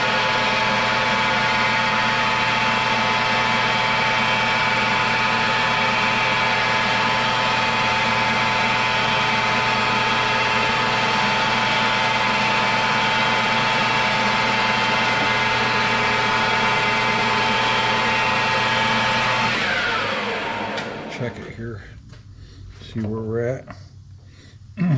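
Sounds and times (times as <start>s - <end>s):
metal lathe humming: 0.0s - 21.4s.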